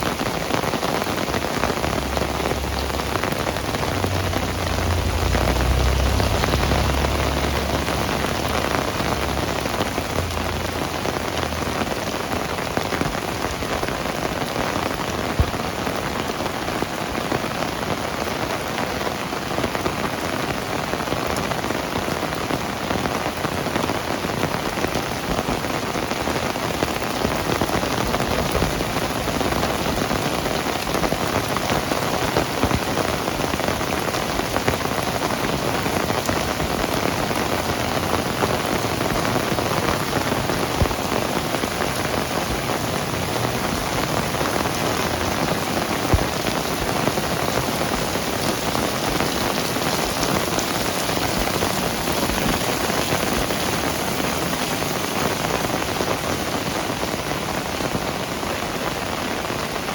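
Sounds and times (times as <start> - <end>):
close raindrop patters: 0.0 - 59.9
heavy rain hissing: 0.0 - 59.9.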